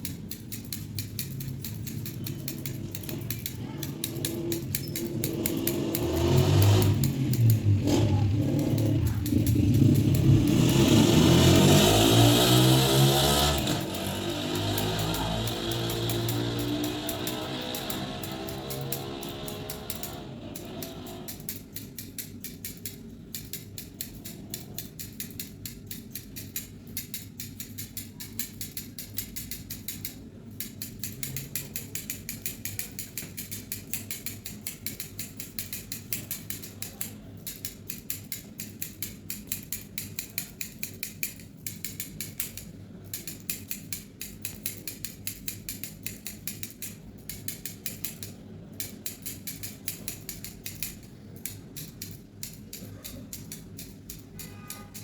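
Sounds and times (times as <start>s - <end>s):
scissors snipping hair: 0.0s - 55.0s.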